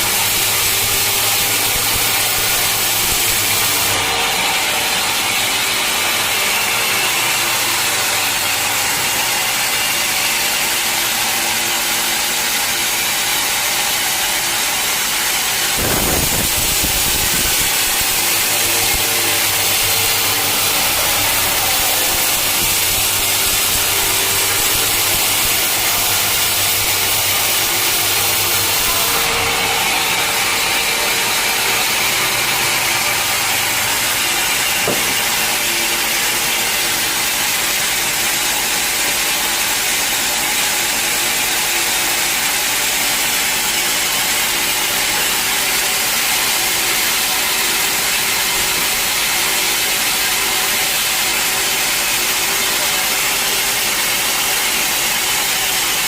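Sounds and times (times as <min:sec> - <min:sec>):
sawmill blade cutting log: 0:00.0 - 0:56.0.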